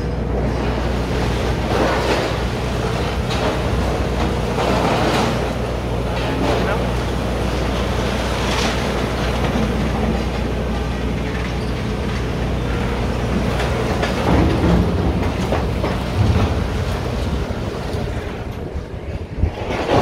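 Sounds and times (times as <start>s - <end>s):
excavator diesel engines running: 0.0s - 20.0s
scrap metal clanks and crunches: 0.1s - 19.0s.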